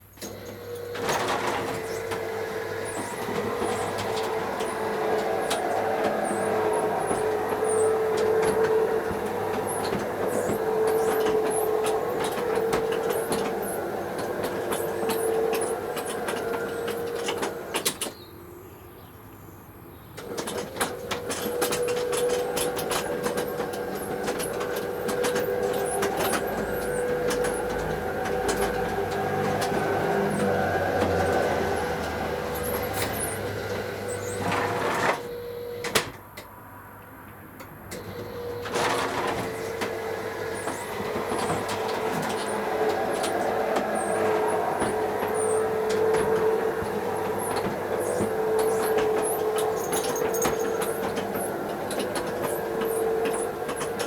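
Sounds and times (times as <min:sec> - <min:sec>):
garage door clattering clicks: 0:00.0 - 0:18.2, 0:20.2 - 0:36.6, 0:37.3 - 0:54.0
garage door opener motor humming: 0:00.0 - 0:18.3, 0:20.1 - 0:54.0.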